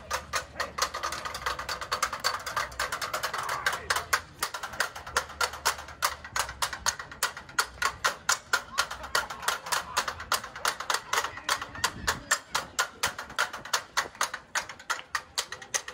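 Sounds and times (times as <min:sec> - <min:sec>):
rapid tapping on hard surface: 0:00.0 - 0:15.9.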